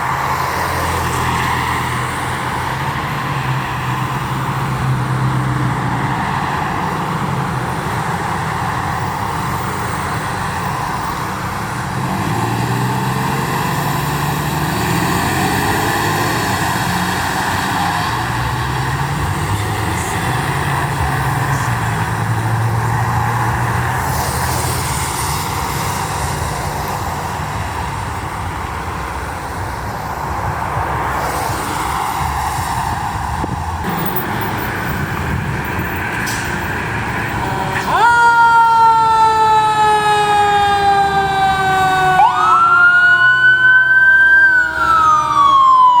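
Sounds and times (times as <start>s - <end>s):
passing traffic noise: 0.0s - 46.0s
vehicle engine humming: 0.0s - 46.0s.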